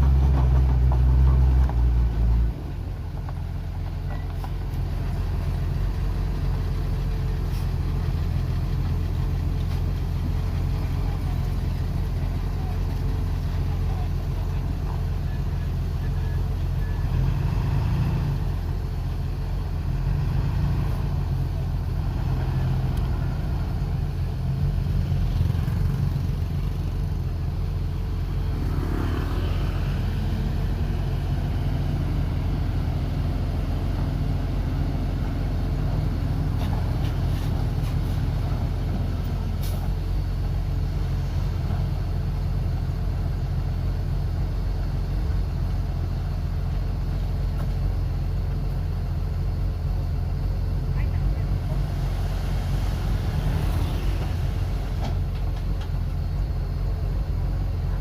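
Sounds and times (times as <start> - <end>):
heavy diesel engine rumbling: 0.0 - 58.0.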